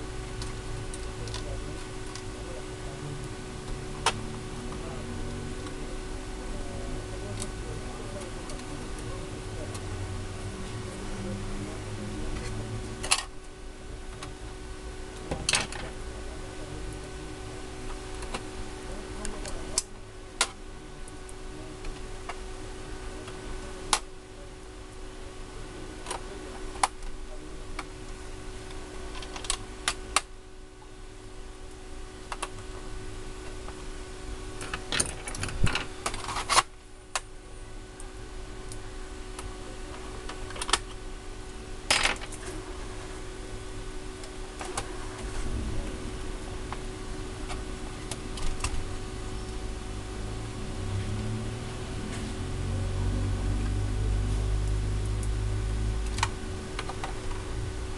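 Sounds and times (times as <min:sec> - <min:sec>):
steady hum: 0:00.0 - 0:57.9.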